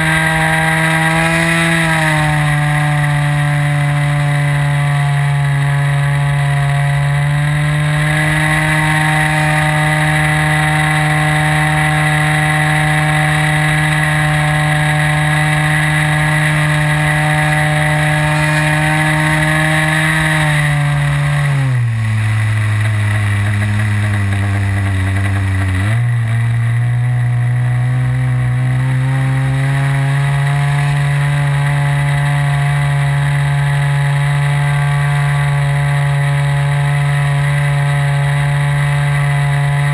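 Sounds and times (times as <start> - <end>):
model airplane engine running: 0.0 - 25.8, 28.4 - 39.9.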